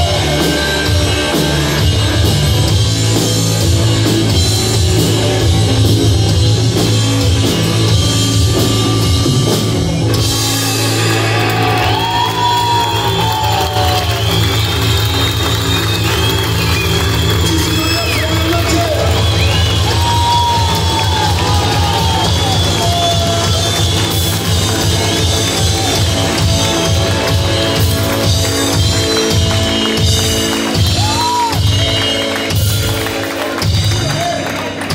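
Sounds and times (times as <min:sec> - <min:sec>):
bass guitar: 0:00.0 - 0:34.9
drum kit: 0:00.0 - 0:34.9.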